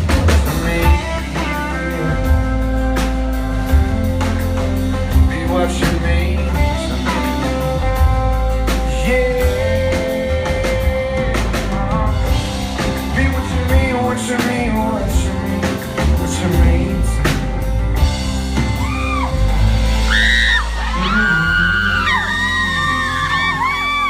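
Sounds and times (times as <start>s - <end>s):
live country band playing: 0.0s - 24.0s
person singing: 0.1s - 4.0s, 5.0s - 17.9s, 20.1s - 24.0s.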